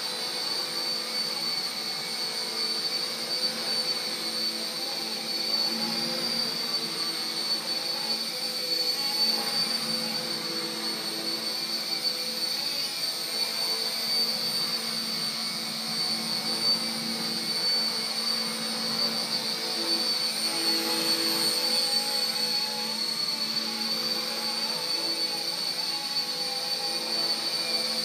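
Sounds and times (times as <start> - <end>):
rc helicopter motor whine: 0.0 - 28.0.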